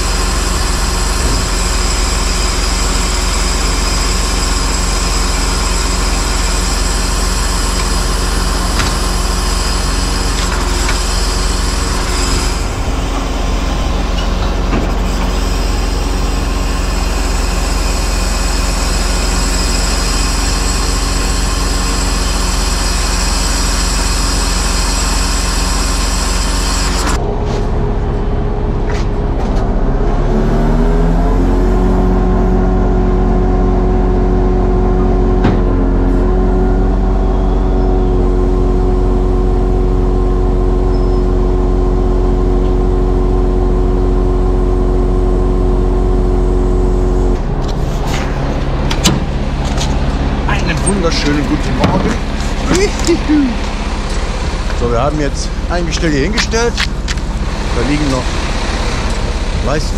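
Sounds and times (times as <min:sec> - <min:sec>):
steady hydraulic whine: 0:00.0 - 0:59.9
truck engine running: 0:00.0 - 0:59.9.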